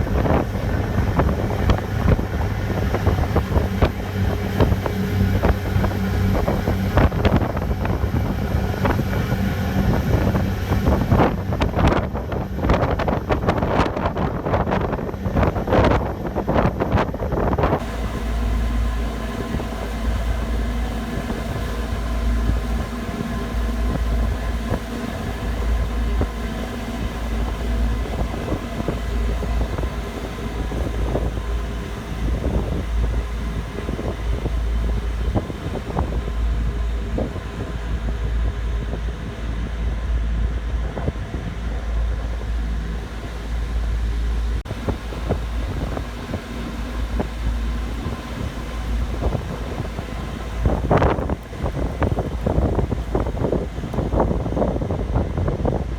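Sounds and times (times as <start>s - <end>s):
diesel engines droning: 0.0s - 55.9s
wind buffeting microphone: 0.0s - 55.9s.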